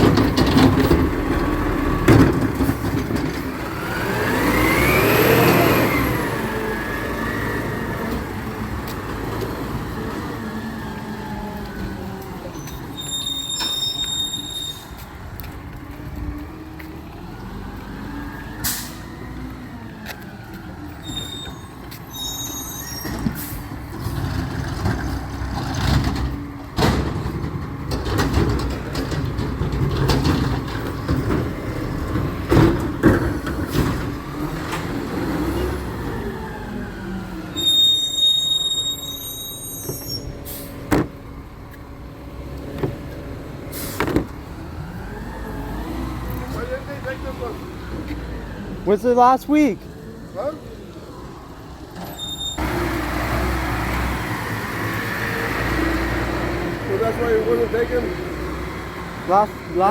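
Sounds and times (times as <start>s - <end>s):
diesel truck engine running: 0.0s - 22.0s, 23.2s - 59.9s.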